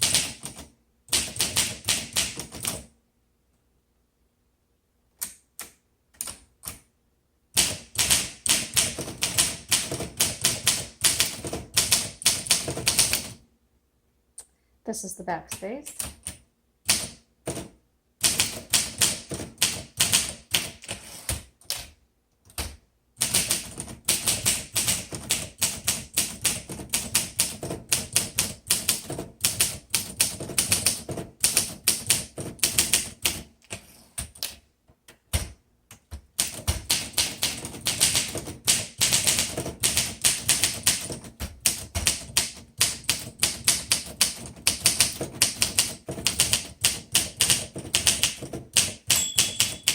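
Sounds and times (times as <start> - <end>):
manual typewriter typing: 0.0 - 2.9, 7.6 - 13.4, 15.9 - 21.9, 22.5 - 34.6, 35.3 - 49.9.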